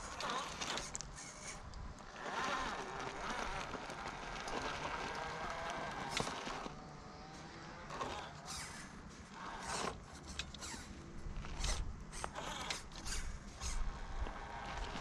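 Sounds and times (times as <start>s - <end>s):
electric motor whirring: 0.0s - 15.0s
tire and chassis scrapes: 0.0s - 15.0s.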